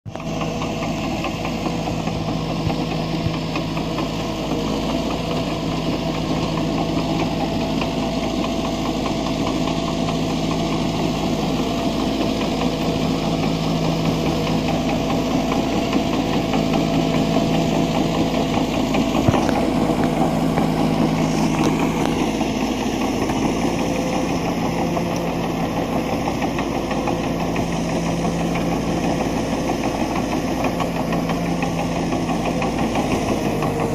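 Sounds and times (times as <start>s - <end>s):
dozer diesel engine under load: 0.1s - 33.9s.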